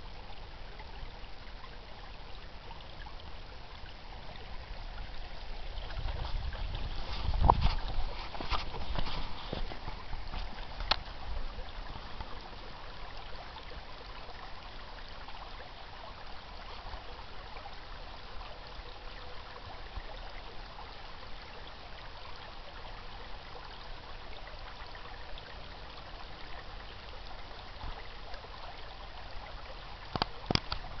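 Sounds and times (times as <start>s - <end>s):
brook babbling: 0.0s - 31.0s.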